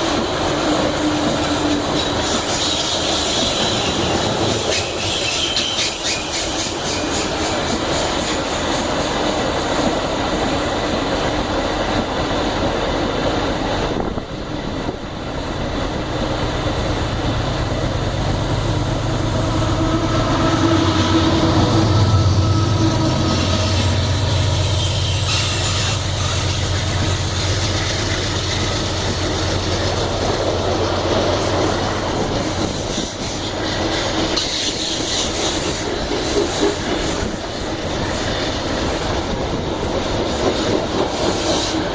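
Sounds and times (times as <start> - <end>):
diesel locomotive engine drone: 0.0 - 41.9
train wheels clattering on rails: 0.0 - 41.9.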